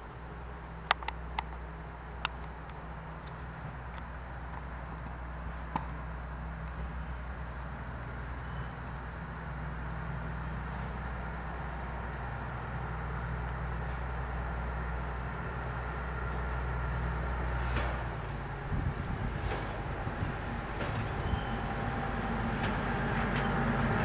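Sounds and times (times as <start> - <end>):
rail vehicle engine droning: 0.0 - 24.0.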